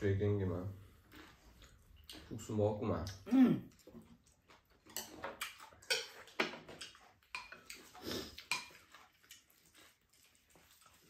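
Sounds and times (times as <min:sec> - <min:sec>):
soft eating sounds: 0:00.0 - 0:11.0.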